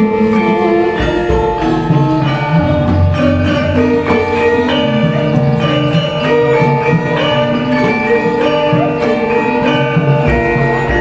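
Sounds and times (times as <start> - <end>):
metallophones struck with mallets: 0.0 - 11.0.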